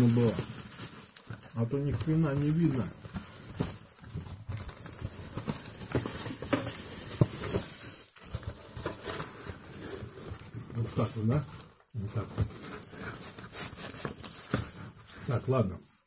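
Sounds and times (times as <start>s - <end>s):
cardboard box being handled: 0.0s - 15.5s.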